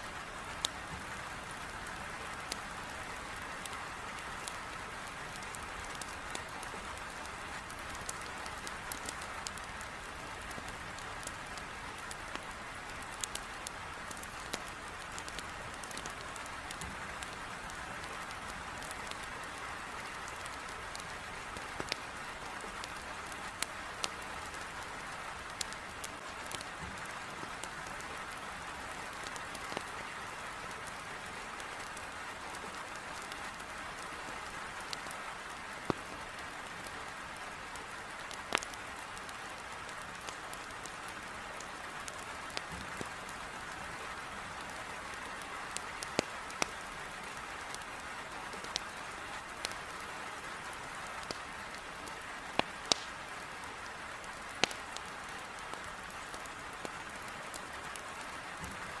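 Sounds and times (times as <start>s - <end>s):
heavy rain against a window: 0.0s - 59.0s
wood fire crackling and popping: 0.0s - 59.0s.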